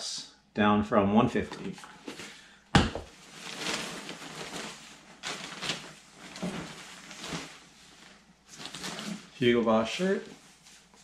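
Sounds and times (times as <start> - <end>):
plastic bag rustling: 2.0 - 11.0.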